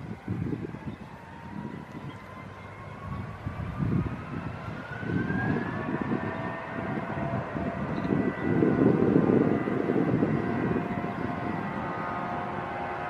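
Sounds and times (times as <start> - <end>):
jet engine whine: 0.0 - 13.0
jet engines deep rumble: 0.0 - 13.0.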